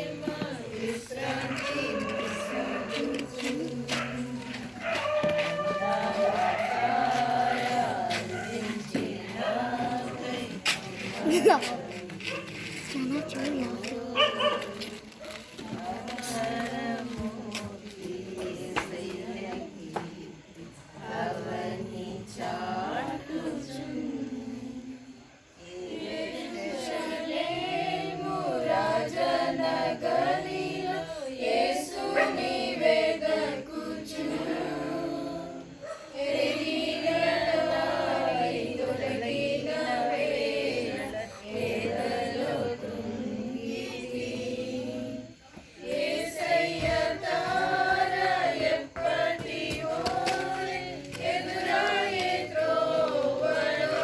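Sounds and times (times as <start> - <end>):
group of voices singing: 0.0 - 54.0.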